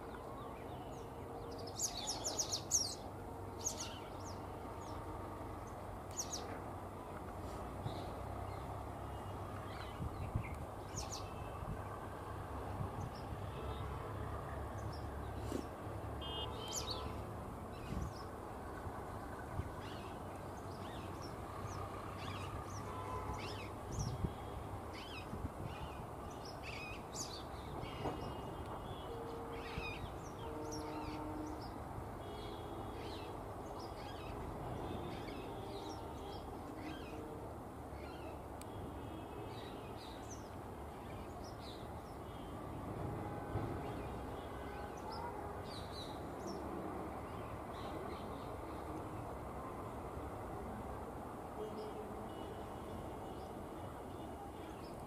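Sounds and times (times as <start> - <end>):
outdoor background rush: 0.0 - 55.0.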